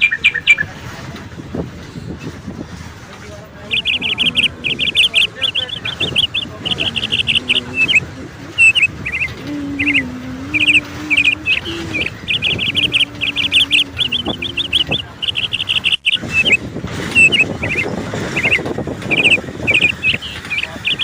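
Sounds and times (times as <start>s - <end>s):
small birds chirping: 0.0s - 0.8s, 3.6s - 21.0s
low wavering hum: 3.6s - 21.0s.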